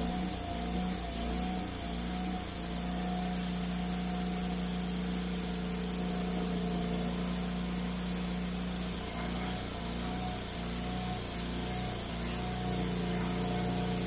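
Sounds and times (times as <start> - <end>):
sawmill engine running: 0.0 - 14.0.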